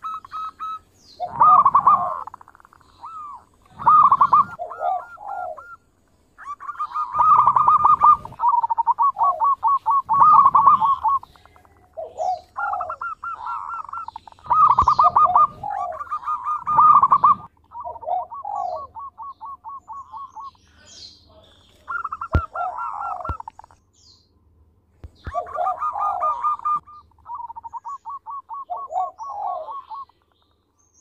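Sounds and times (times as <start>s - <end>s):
dove cooing: 0.0s - 20.6s, 21.4s - 23.8s, 25.1s - 30.4s.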